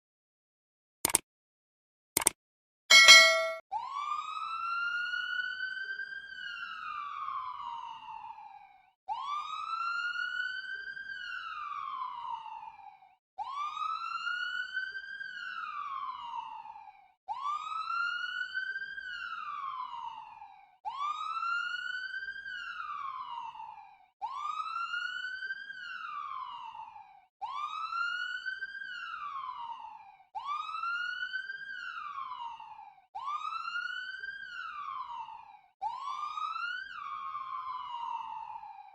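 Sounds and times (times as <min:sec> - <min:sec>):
ambulance siren wailing: 0:03.7 - 0:12.8, 0:13.4 - 0:38.7.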